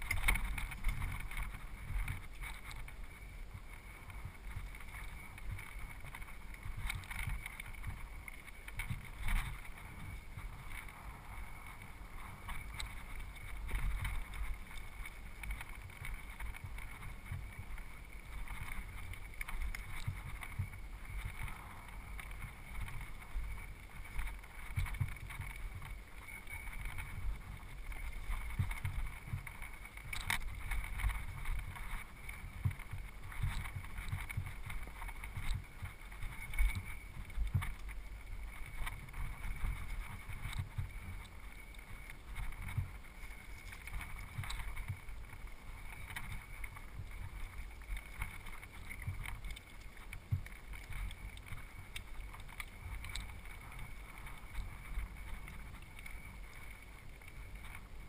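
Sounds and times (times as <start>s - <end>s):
bike rattling: 0.0s - 58.0s
wind rumble on microphone: 0.0s - 58.0s.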